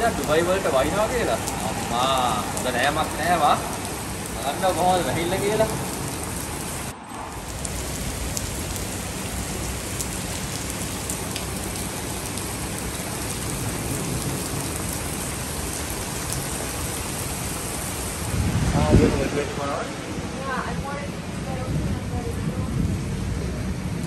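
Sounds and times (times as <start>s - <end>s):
rain on wet pavement: 0.0s - 24.0s.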